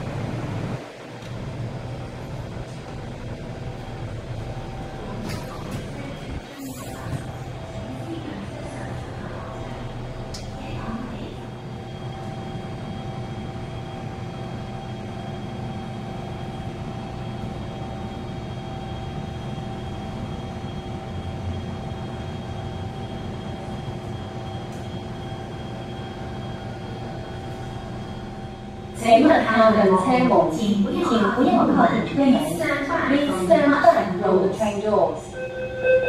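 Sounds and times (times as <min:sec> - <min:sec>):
train air-conditioning hum: 0:00.0 - 0:36.0.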